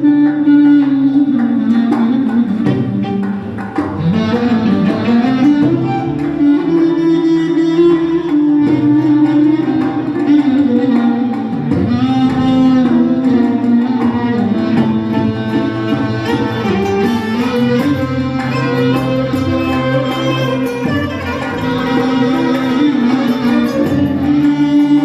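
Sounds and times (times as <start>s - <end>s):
electronic keyboard folk melody: 0.0s - 25.0s
steady percussion: 0.0s - 25.0s.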